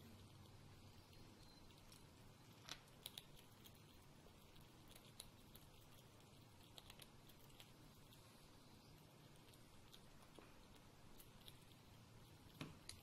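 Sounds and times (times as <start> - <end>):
squirrel chewing nut: 0.0 - 13.0.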